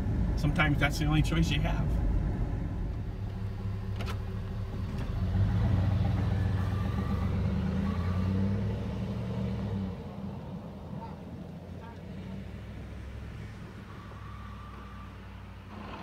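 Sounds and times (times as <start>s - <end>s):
truck engine driving off: 0.0s - 16.0s.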